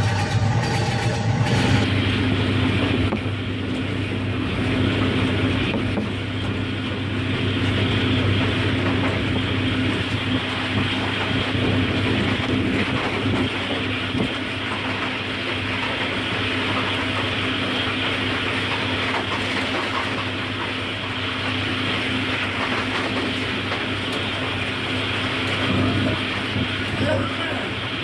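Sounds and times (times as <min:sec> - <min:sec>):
diesel locomotive drone: 0:00.0 - 0:28.0
train wheels clattering on rails: 0:00.0 - 0:28.0.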